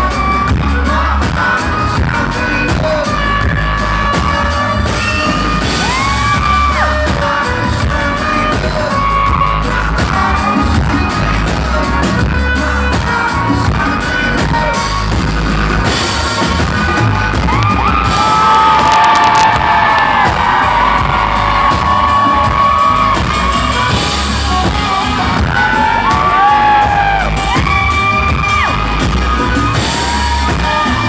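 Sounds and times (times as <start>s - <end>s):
crowd shouting and whooping: 0.0s - 14.8s, 15.8s - 31.0s
heavy bass: 0.0s - 31.0s
live band playing loudly: 0.0s - 31.0s
person singing: 0.0s - 31.0s
steady drumbeat: 0.0s - 31.0s.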